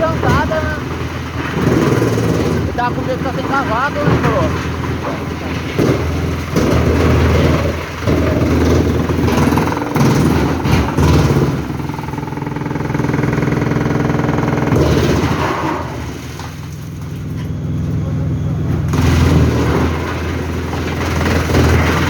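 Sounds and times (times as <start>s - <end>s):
heavy engine labouring: 0.0s - 22.0s.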